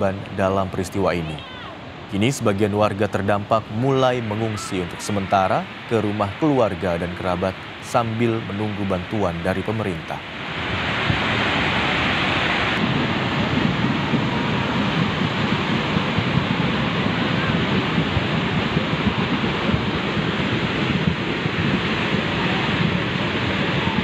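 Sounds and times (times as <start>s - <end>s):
torrent of water roaring: 0.0s - 24.0s.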